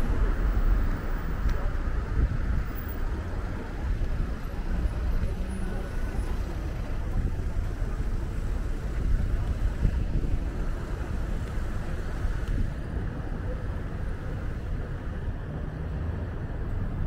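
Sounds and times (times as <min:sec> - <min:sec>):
low rumble of cars passing: 0:00.0 - 0:17.0.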